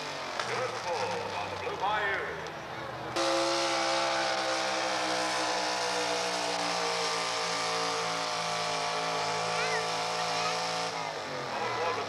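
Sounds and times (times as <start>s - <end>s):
truck engine revving hard: 0.0s - 1.8s, 3.1s - 12.0s.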